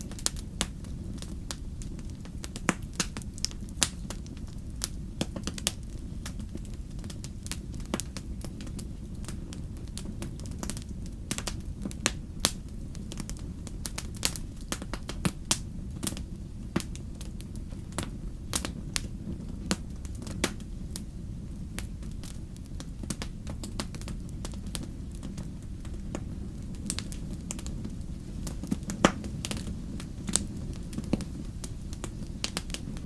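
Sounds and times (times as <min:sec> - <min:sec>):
sharp pops from fire: 0:00.0 - 0:33.0
wood fire crackling: 0:00.0 - 0:33.0.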